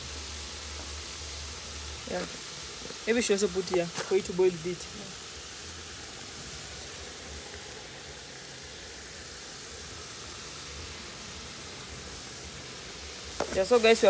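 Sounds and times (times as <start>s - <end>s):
meat sizzling in pot: 0.0s - 14.0s.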